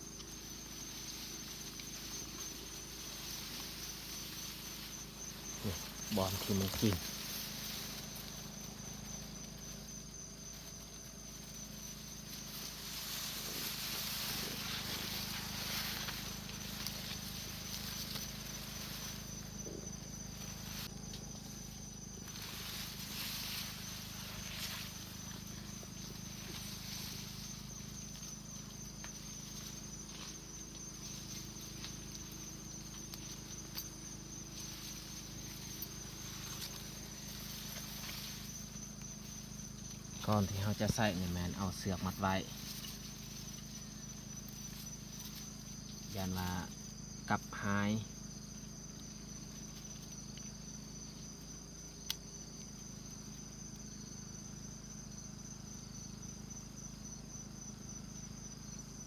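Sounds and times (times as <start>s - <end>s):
insects trilling: 0.0s - 59.0s
rustling hiss: 0.0s - 59.0s.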